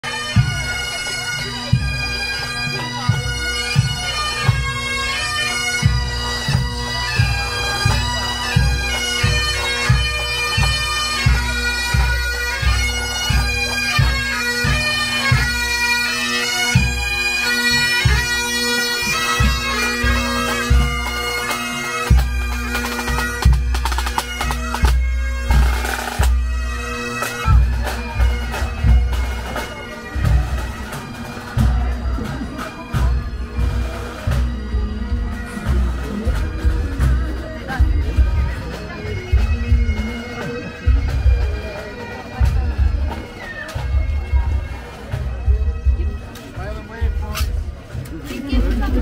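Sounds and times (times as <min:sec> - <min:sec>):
bagpipes playing: 0:00.0 - 0:49.0
drum beats: 0:00.1 - 0:49.0.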